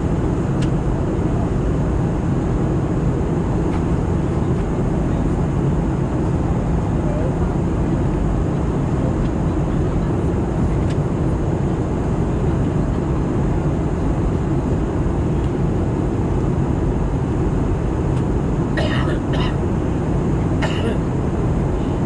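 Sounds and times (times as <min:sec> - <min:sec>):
jet engine drone: 0:00.0 - 0:22.0.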